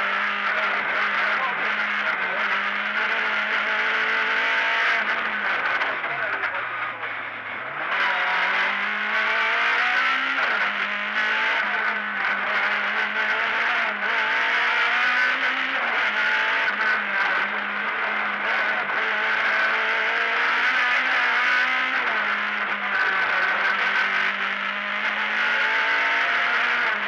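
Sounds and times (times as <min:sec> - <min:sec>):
rally car engine revving: 0:00.0 - 0:27.0.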